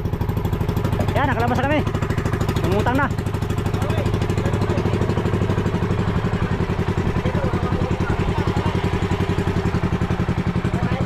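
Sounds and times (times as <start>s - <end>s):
boat engine putter: 0.0s - 11.0s.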